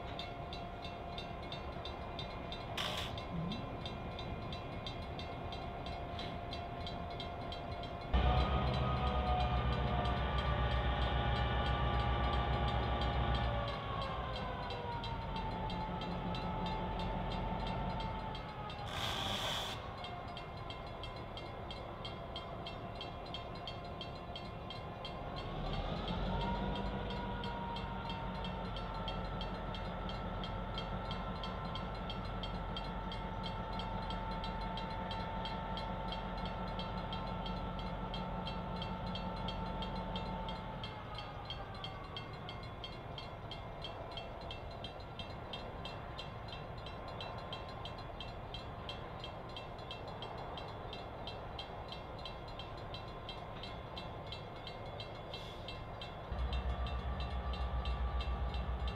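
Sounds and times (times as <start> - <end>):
diesel locomotive engine throttling: 0.0 - 58.9.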